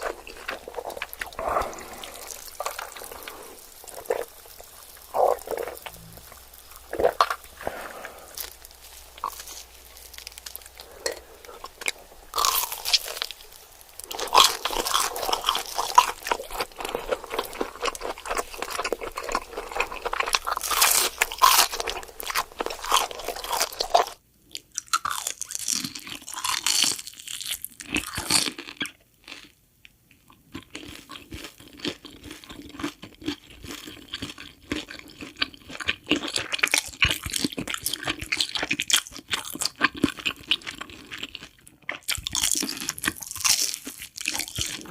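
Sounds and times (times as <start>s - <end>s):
crunching and chewing: 0.0s - 44.9s.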